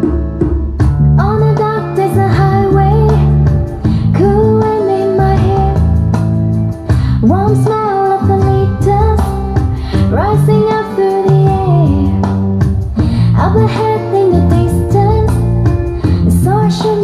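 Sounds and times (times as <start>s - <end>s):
bass and guitar: 0.0s - 17.0s
woman singing pop ballad: 1.2s - 17.0s.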